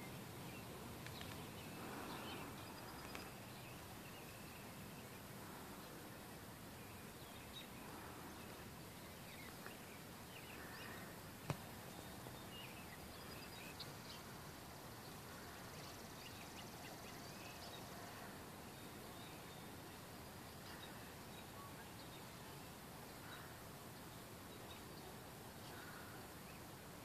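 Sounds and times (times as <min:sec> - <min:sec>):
faint background hiss: 0:00.0 - 0:27.0.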